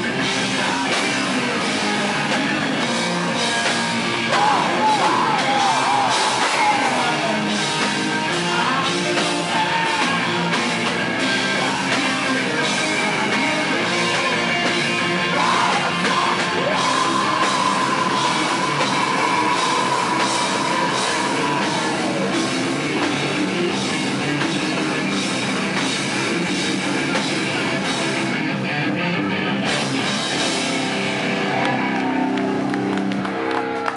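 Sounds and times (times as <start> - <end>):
heavy metal band playing: 0.0 - 33.9.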